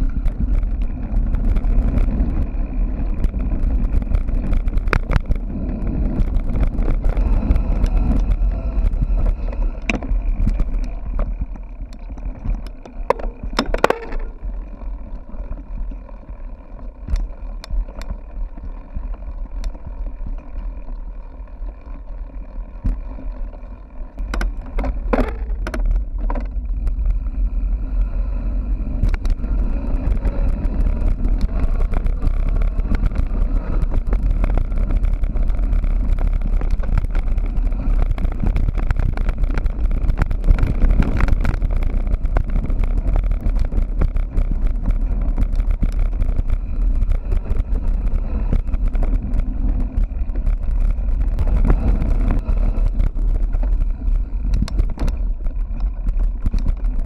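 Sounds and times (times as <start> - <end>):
bike rattling and knocking: 0.0 - 57.0
bike tyre noise: 0.0 - 57.0
wind rumble on microphone: 0.0 - 57.0.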